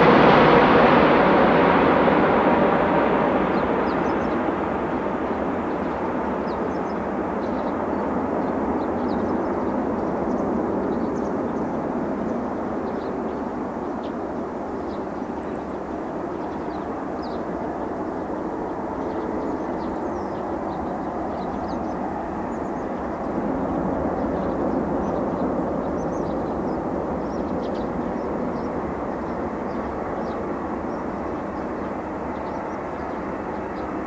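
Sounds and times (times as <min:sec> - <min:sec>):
jet engines landing: 0:00.0 - 0:34.0.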